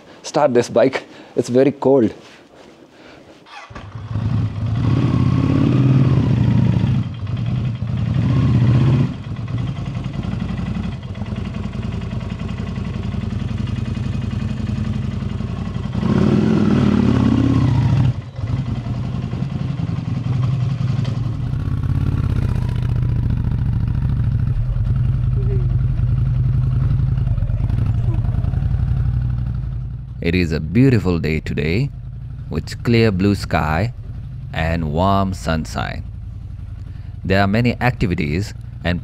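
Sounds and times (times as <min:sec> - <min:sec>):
motorcycle engine revving and idling: 0:03.5 - 0:39.0.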